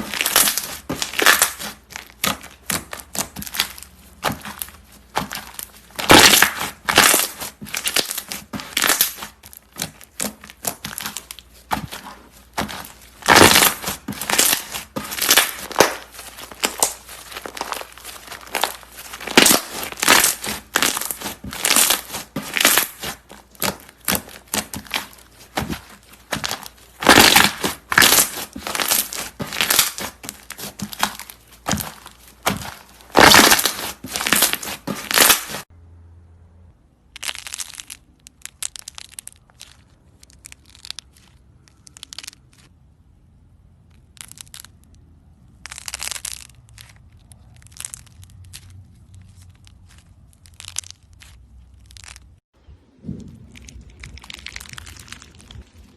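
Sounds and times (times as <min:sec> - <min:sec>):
crunchy slime crackling and popping: 0:00.0 - 0:35.7, 0:37.1 - 0:42.8, 0:43.8 - 0:55.9.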